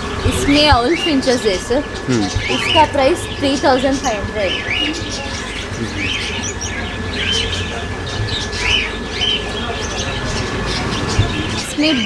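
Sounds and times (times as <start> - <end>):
steady low rumble: 0.0 - 11.8
finches chirping: 0.0 - 12.0.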